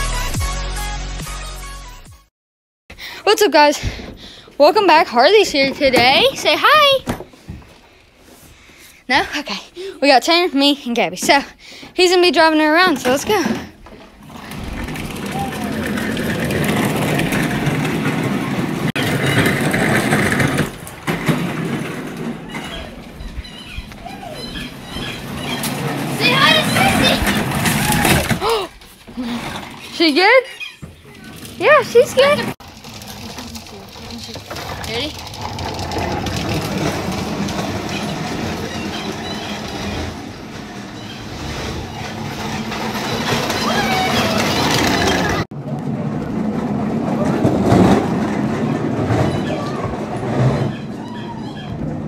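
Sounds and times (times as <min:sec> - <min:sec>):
plastic toy car wheels rumbling on concrete: 0:03.5 - 0:08.1, 0:10.6 - 0:52.0.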